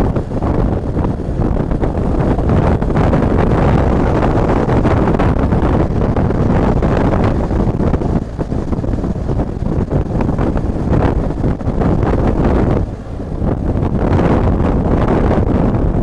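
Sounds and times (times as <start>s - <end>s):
motorcycle engine: 0.0s - 16.0s
tyres on road: 0.0s - 16.0s
wind buffeting microphone: 0.0s - 16.0s.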